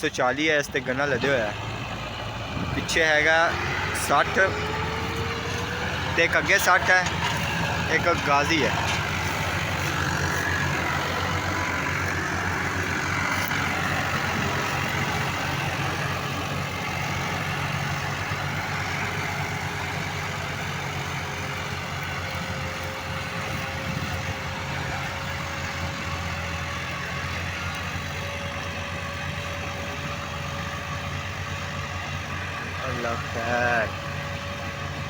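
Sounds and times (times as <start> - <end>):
tractor diesel engine rumble: 0.0 - 35.0.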